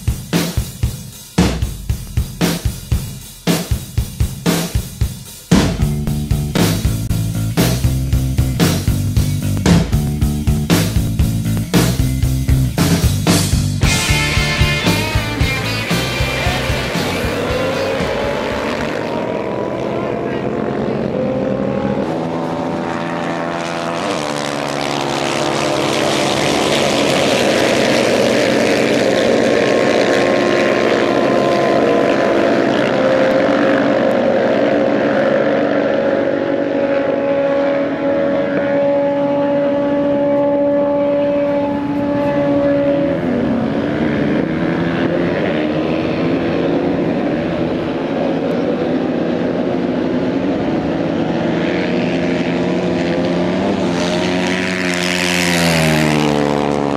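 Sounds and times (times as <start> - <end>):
motocross bike engines revving: 0.0 - 56.9.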